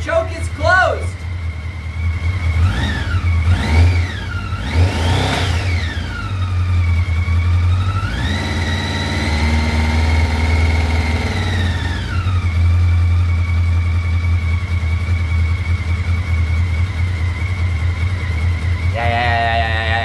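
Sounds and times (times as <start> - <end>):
motorcycle engine revving and idling: 1.2 - 20.0.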